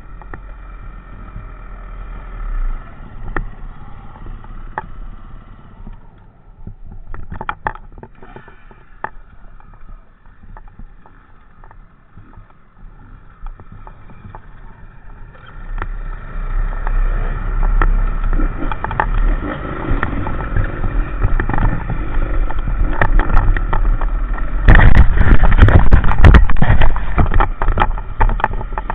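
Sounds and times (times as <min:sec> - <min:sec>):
motorcycle riding: 0:00.0 - 0:28.9
wind rumble on microphone: 0:00.0 - 0:28.9.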